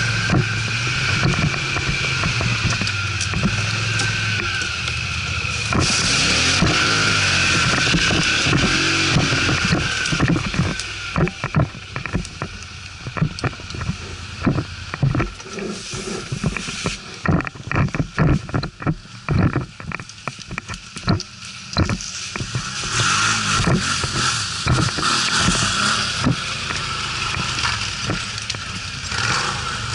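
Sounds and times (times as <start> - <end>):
atv engine revving: 0.0 - 29.9
knocks and clatter: 0.0 - 29.9.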